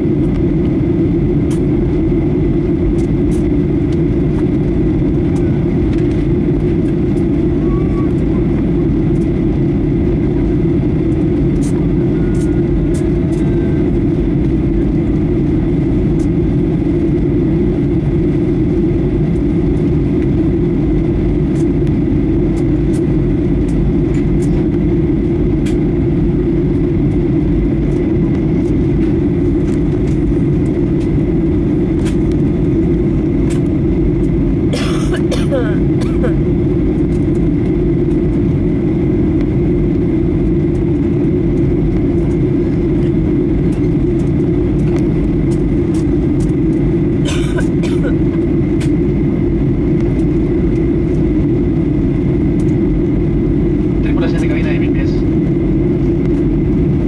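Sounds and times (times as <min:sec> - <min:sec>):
faint steady whine: 0:00.0 - 0:57.0
jet engine and airflow roar: 0:00.0 - 0:57.0.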